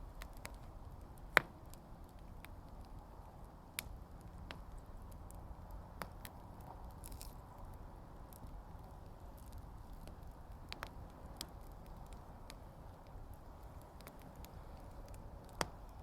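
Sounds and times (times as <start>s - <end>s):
burning logs popping: 0.0s - 16.0s
low rumble of flame: 0.0s - 16.0s
wood fire crackling: 0.0s - 16.0s.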